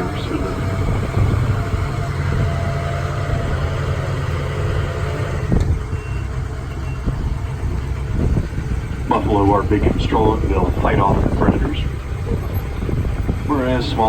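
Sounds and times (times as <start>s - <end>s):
low engine rumble: 0.0s - 14.0s
road noise: 0.0s - 14.0s.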